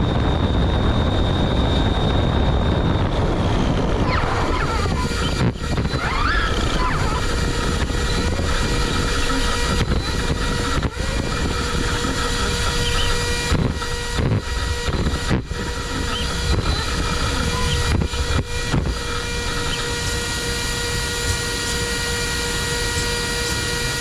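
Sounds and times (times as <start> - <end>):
rc car motor whine: 0.0 - 24.0
rushing wind: 0.0 - 24.0.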